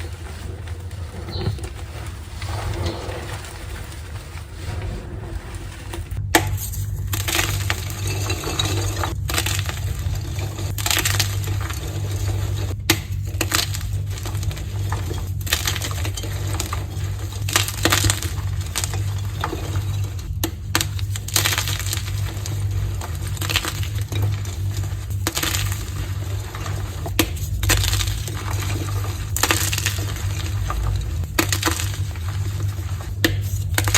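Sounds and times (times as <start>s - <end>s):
chalk blocks crunching: 0.0s - 33.9s.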